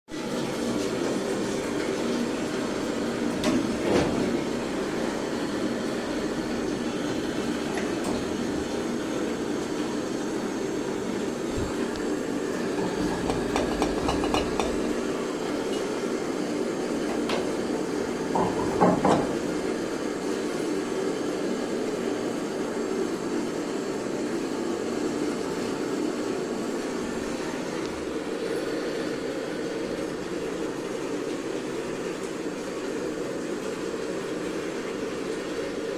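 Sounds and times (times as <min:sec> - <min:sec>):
machine running with hiss: 0:00.1 - 0:35.9.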